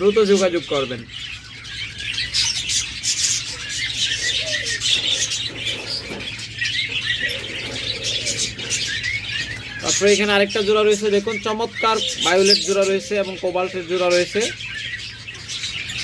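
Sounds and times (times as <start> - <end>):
birds chirping and squawking: 0.0 - 16.0.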